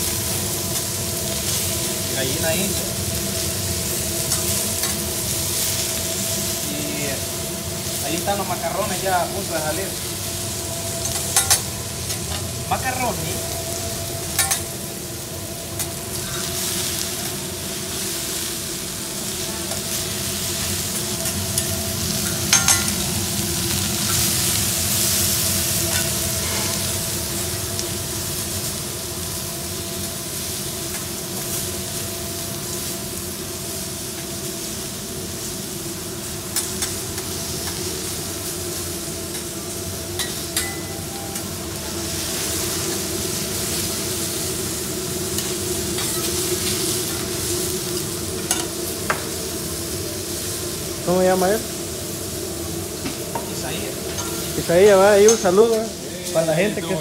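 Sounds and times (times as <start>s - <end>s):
food sizzling on a steel griddle: 0.0s - 57.0s.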